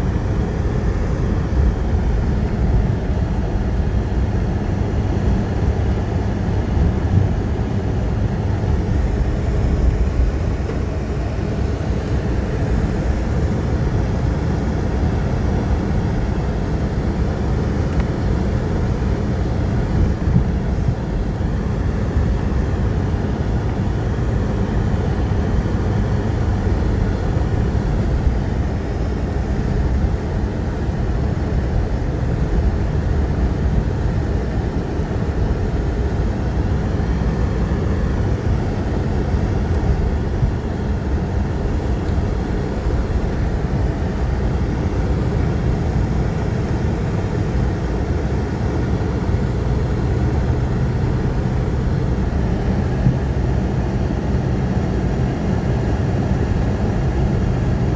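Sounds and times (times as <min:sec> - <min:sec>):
engine and tyres rumbling: 0:00.0 - 0:57.9.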